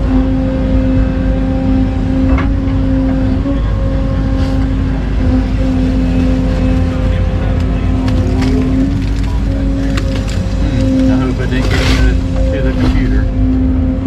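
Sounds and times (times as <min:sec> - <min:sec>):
diesel engine running: 0:00.0 - 0:14.0
hydraulic whine: 0:00.0 - 0:14.0.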